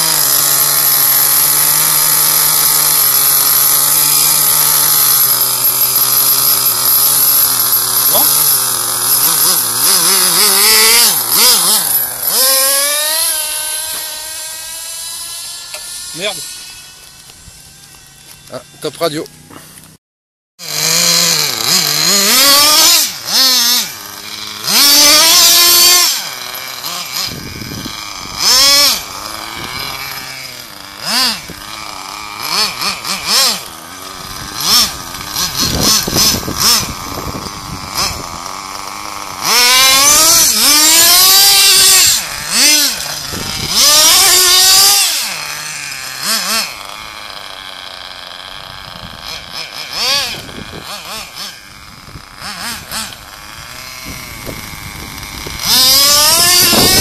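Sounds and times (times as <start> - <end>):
rc car motor revving: 0.0 - 20.0, 20.6 - 57.0.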